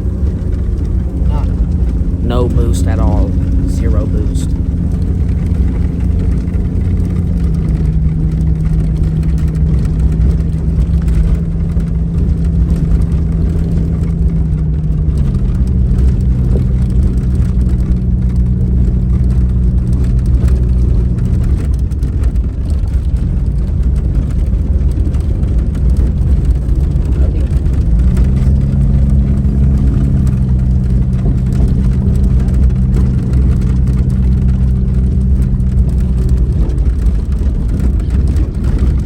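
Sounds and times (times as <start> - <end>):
engine low rumble: 0.0 - 39.0.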